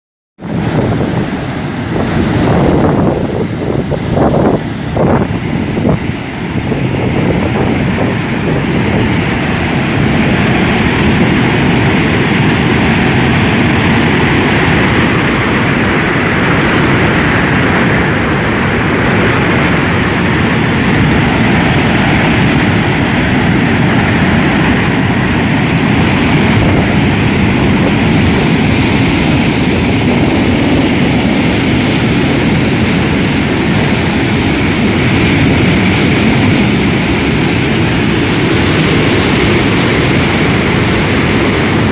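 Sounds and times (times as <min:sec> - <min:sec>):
waterfall rushing: 0:00.4 - 0:41.9.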